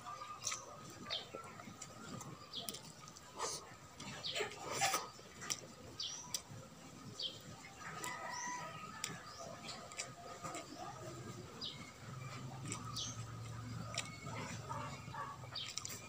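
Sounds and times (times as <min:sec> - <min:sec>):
birds chirping: 0:00.0 - 0:16.0
clicks of man eating: 0:00.2 - 0:16.0.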